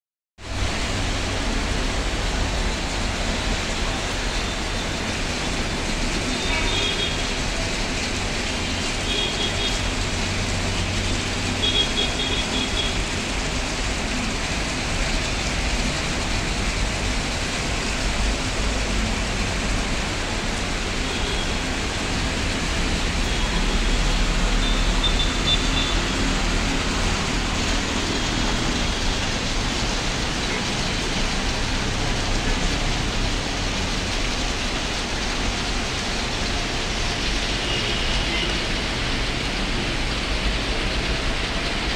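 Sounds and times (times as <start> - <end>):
heavy rain: 0.4 - 41.9
street traffic rumble: 0.4 - 41.9.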